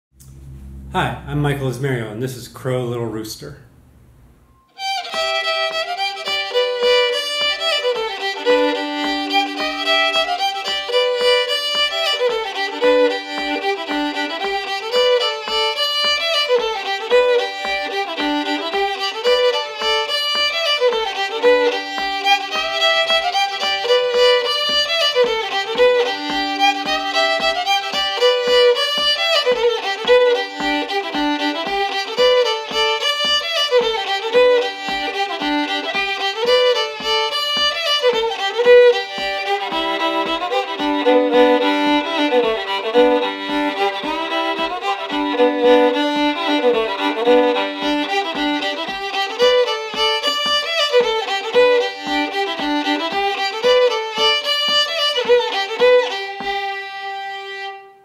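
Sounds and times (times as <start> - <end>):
steady low thump: 0.2 - 2.1, 7.4 - 56.8
solo fiddle playing old-time tune: 4.7 - 58.0.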